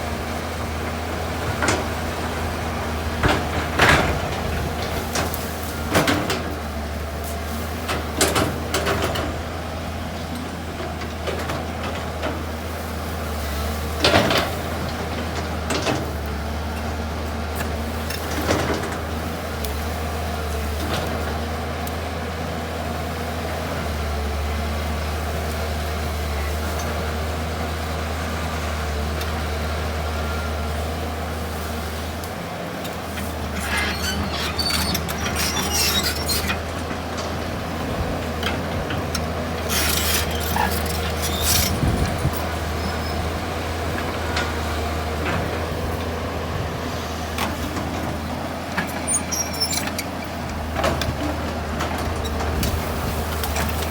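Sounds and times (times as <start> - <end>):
excavator engine droning: 0.0 - 53.9.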